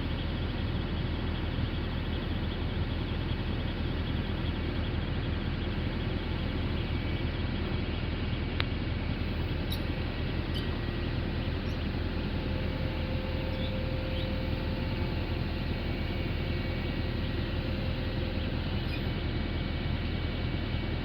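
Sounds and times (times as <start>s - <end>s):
faint steady whine: 0.0s - 21.0s
heavy machinery engine running: 0.0s - 21.0s.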